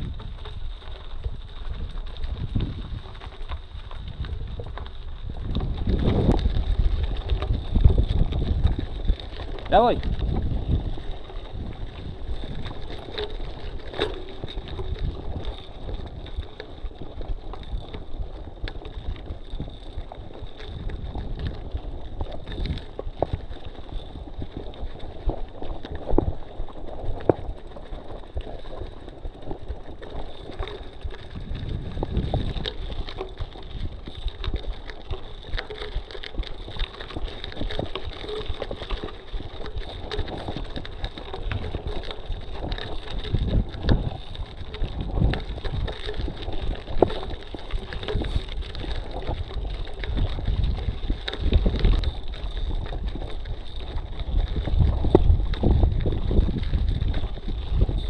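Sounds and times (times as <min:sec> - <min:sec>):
bike knocking and rattling: 0:00.0 - 0:58.0
tyres crunching on gravel: 0:00.0 - 0:58.0
wind rumbling on microphone: 0:00.0 - 0:58.0.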